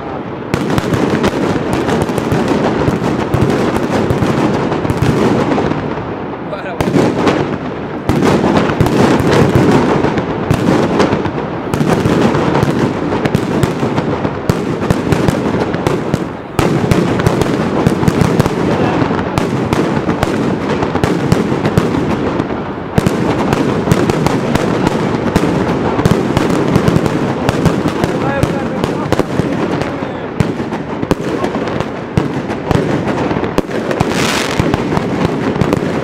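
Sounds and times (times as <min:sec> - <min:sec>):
firecrackers exploding in rapid bangs: 0:00.0 - 0:36.0.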